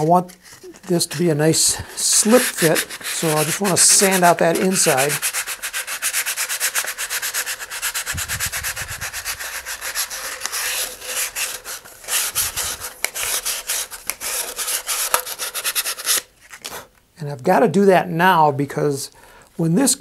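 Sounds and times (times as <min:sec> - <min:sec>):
sandpaper scratching cardboard tube: 0:00.0 - 0:16.3.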